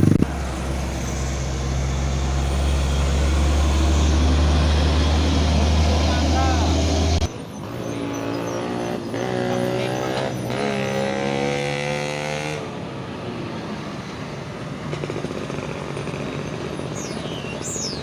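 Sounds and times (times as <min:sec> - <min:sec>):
traffic noise: 0:00.0 - 0:18.0
truck engine passing: 0:00.0 - 0:18.0.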